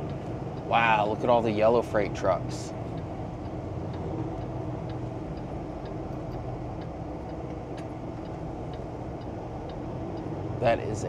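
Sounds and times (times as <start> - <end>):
road noise: 0.0 - 11.0
truck engine humming: 0.0 - 11.0
turn signal ticking: 0.0 - 11.0.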